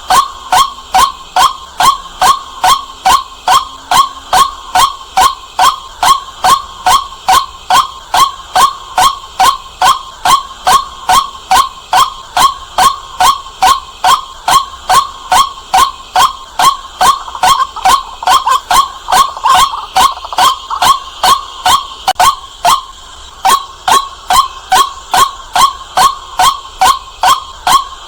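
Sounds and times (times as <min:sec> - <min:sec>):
waterhen calling kwak: 0:00.0 - 0:28.0.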